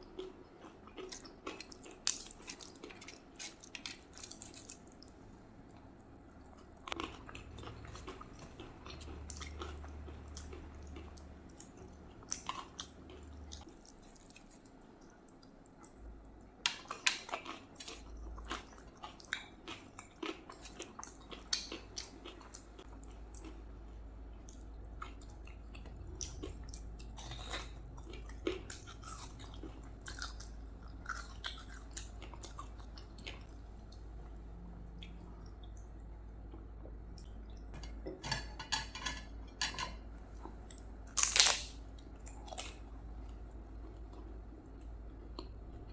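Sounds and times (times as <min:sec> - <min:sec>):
person chewing food: 0:00.0 - 0:38.2, 0:40.2 - 0:45.9.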